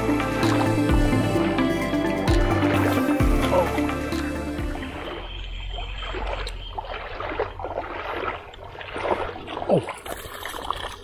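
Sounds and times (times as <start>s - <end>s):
lure splashing across water: 0.0s - 11.0s.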